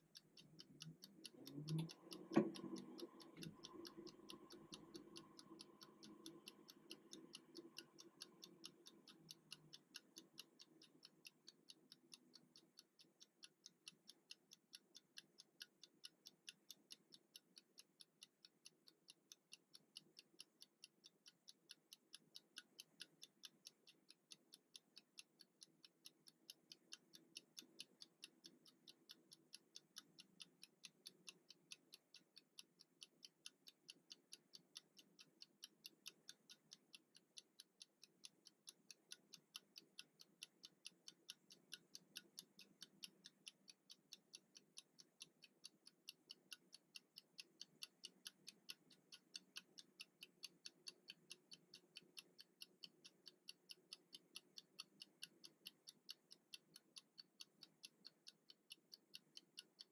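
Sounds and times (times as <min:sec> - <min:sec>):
kitchen timer ticking: 0:00.0 - 0:59.9.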